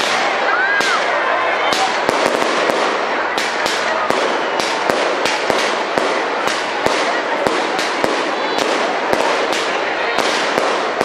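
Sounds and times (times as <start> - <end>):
firecracker bangs: 0.0 - 11.0
fireworks hissing and crackling: 0.0 - 11.0.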